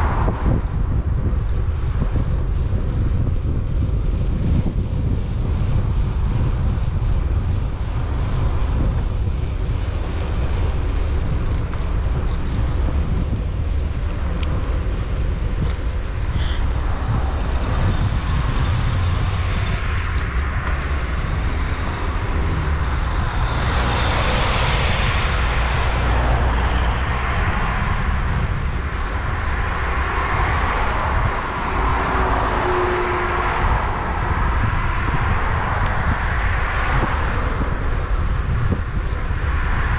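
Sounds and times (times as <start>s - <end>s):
cars passing: 0.0s - 39.9s
wind rumble on microphone: 0.0s - 39.9s.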